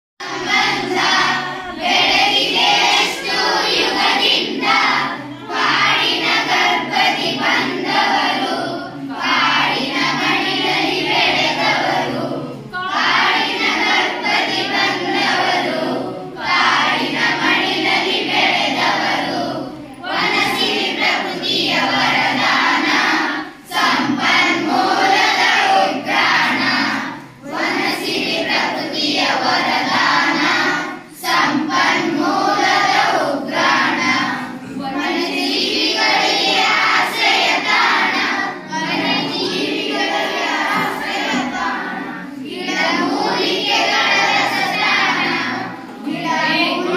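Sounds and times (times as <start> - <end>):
children singing in unison: 0.2 - 46.9.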